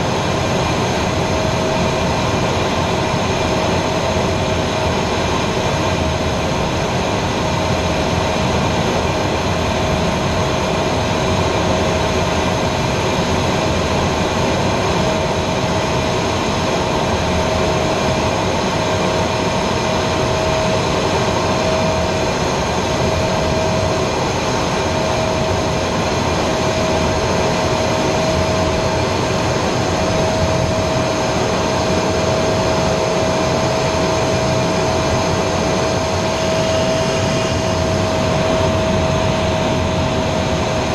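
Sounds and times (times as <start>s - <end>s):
jet engine roar in cockpit: 0.0s - 40.9s.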